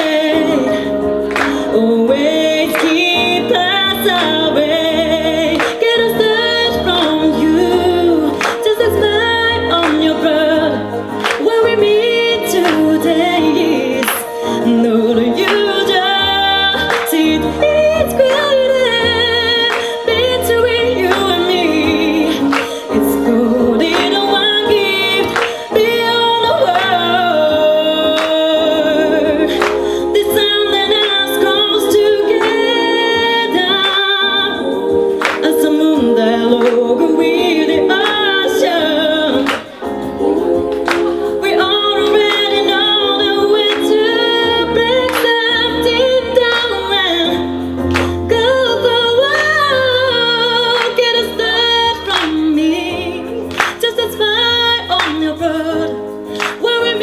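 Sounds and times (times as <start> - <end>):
woman singing into microphone: 0.0 - 57.0.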